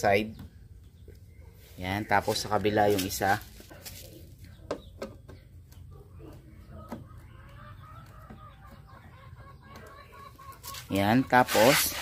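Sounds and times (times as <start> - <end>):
hens clucking: 0.2 - 12.0.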